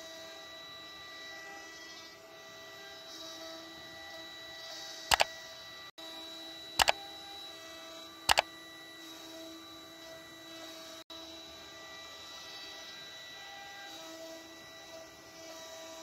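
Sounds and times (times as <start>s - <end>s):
wood router spindle whining: 0.0s - 16.0s.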